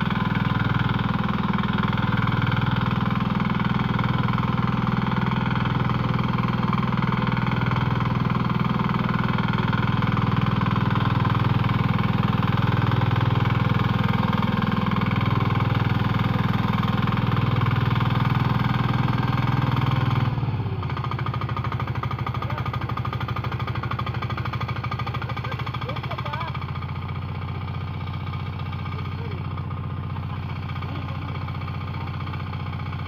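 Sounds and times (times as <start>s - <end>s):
power tiller engine running: 0.0s - 33.0s.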